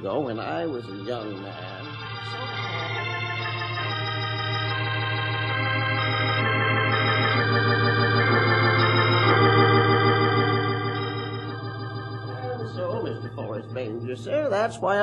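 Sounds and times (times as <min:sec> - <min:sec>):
organ playing held chords: 0:00.0 - 0:15.0.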